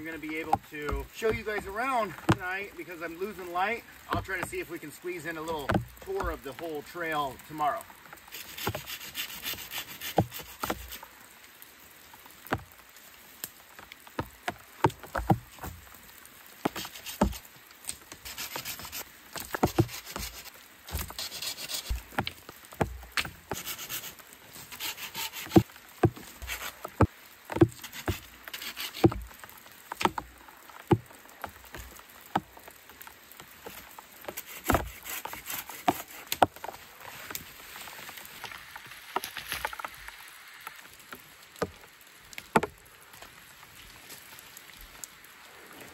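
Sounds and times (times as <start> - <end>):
twigs and brush rustling: 0.0 - 45.9
branches cracking and snapping: 7.4 - 45.9.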